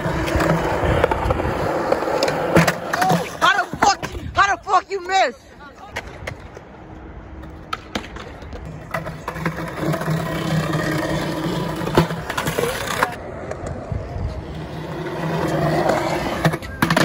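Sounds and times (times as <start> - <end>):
skateboard wheels rolling on concrete: 0.0 - 17.0.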